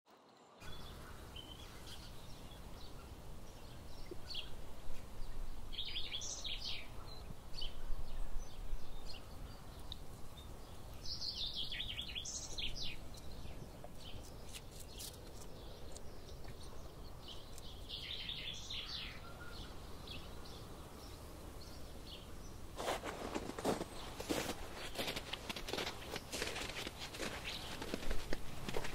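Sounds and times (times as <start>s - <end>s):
songbird singing: 0.1s - 28.9s.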